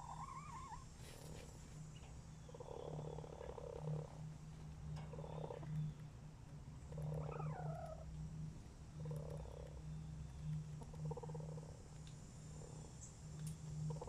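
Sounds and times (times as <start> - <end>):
chickens purring: 0.0 - 14.0.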